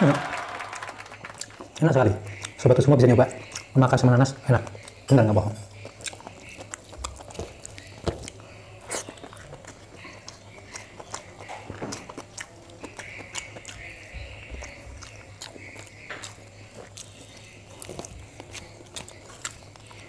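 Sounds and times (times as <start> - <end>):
wet chewing and mouth clicks: 0.8 - 20.0
fingers squishing food on steel plate: 1.2 - 20.0.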